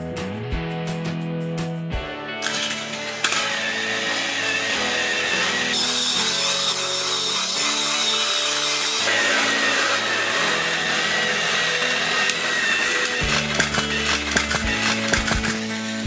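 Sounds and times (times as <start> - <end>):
background music: 0.0 - 16.0
toy train motors whirring: 2.4 - 16.0.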